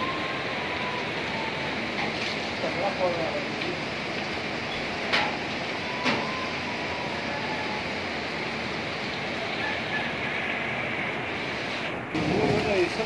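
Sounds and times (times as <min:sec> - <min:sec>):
river rushing in flood: 0:00.0 - 0:13.0.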